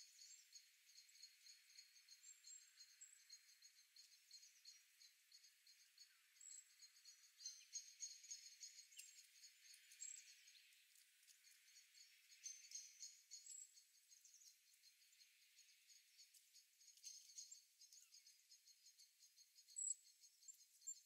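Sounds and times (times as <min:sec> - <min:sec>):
small songbirds chirping: 0:00.0 - 0:21.0.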